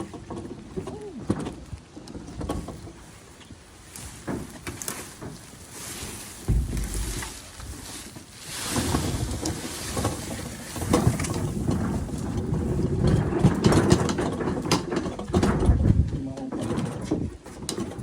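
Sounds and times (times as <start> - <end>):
wheels rumbling with rattles: 0.0 - 18.0.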